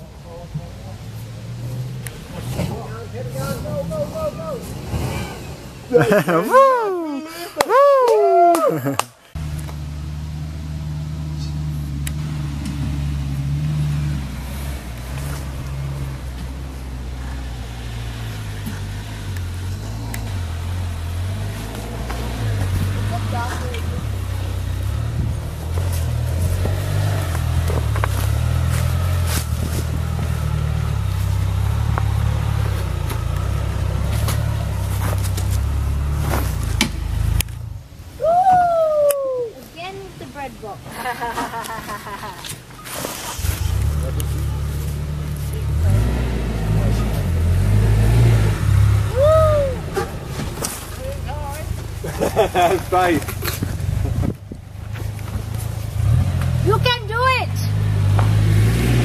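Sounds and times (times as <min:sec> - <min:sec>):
van engine running at low revs: 0:00.0 - 0:06.3, 0:09.3 - 0:38.2, 0:43.2 - 0:59.0.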